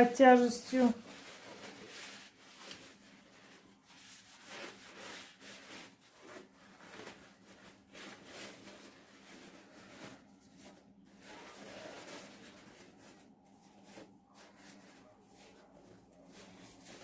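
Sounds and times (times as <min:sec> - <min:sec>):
paper towels rustling: 0:00.0 - 0:17.0.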